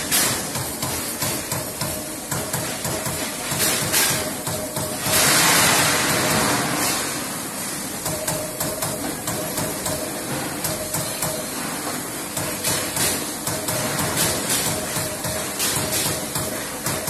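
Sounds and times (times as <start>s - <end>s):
punch press punching sheet metal: 0.0s - 17.0s.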